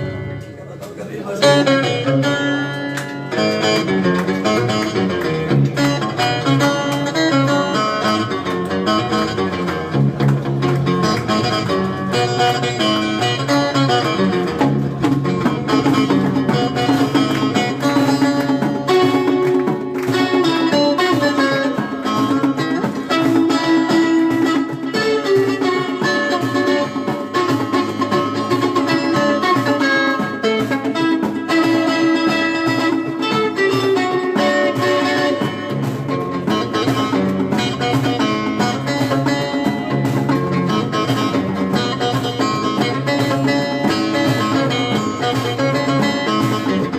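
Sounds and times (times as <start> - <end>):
plucked string instrumental music: 0.0 - 46.9.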